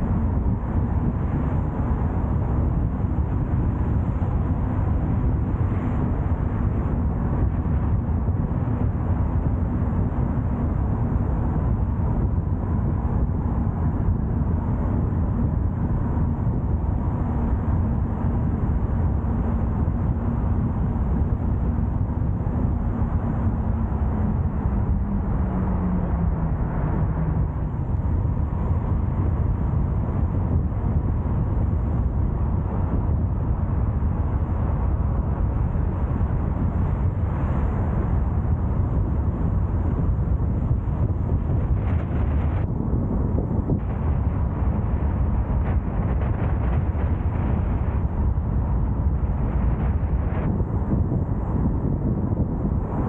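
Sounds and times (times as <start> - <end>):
car engine hum: 0.0 - 53.0
road and wind noise: 0.0 - 53.0.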